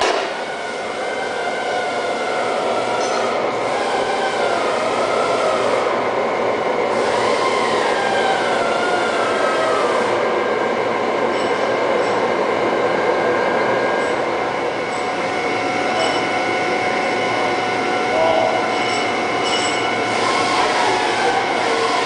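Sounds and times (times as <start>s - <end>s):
boring mill whine and rumble: 0.0s - 22.0s.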